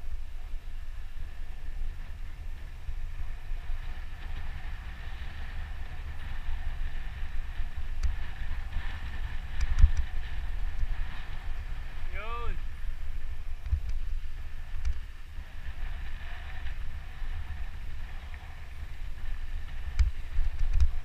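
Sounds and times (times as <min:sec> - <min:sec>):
bike tyre and frame noise: 0:00.0 - 0:21.0
wind on microphone: 0:00.0 - 0:21.0.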